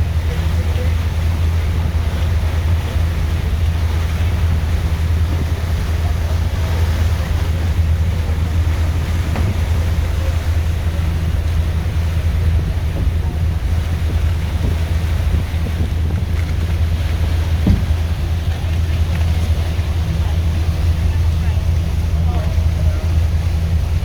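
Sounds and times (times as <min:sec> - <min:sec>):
boat engine droning: 0:00.0 - 0:24.0
water rushing: 0:00.0 - 0:24.0
wind buffeting microphone: 0:00.0 - 0:24.0.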